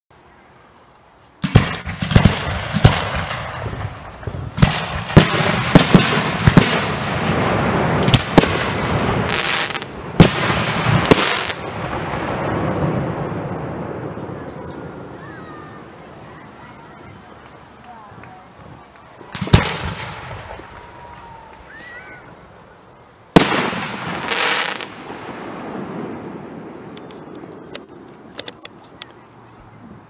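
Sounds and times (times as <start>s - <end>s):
fireworks crackling rumble: 0.2s - 30.0s
fireworks bangs: 1.4s - 28.4s.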